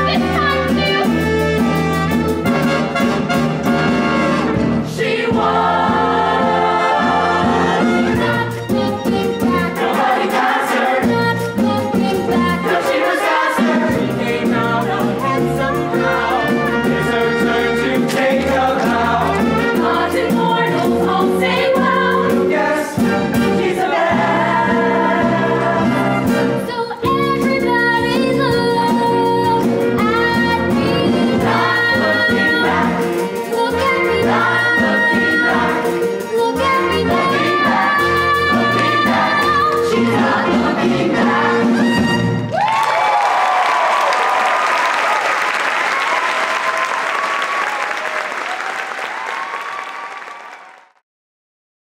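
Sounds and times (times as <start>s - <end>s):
instrumental accompaniment: 0.0s - 42.6s.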